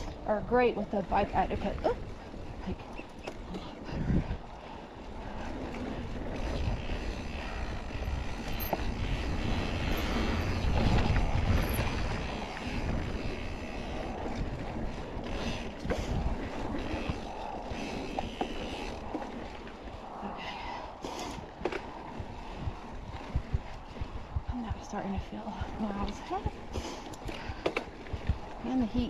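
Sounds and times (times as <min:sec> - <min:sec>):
mountain bike on dirt trail: 0:00.0 - 0:29.0
wind on microphone: 0:00.0 - 0:29.0
bike clicks: 0:01.2 - 0:29.0.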